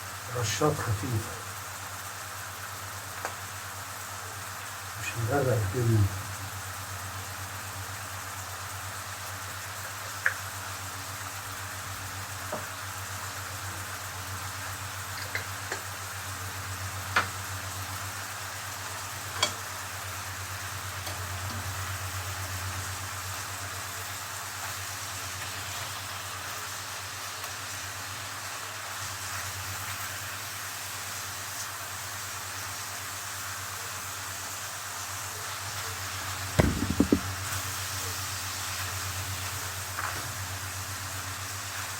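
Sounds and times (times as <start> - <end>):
seafood frying in oil: 0.0 - 41.9.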